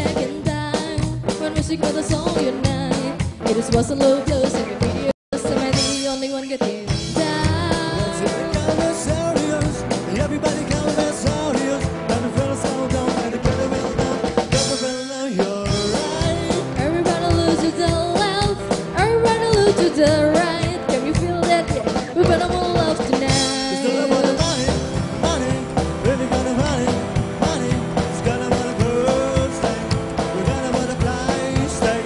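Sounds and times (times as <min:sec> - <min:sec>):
live rock and roll band: 0:00.0 - 0:32.0
person singing: 0:00.0 - 0:32.0.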